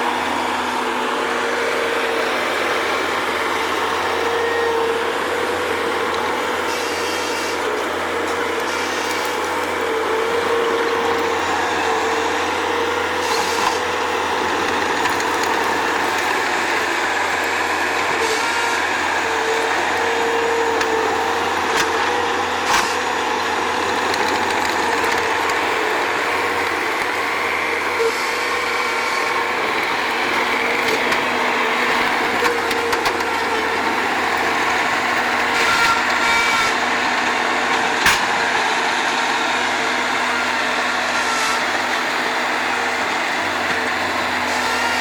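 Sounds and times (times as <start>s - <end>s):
loader engine running: 0.0s - 45.0s.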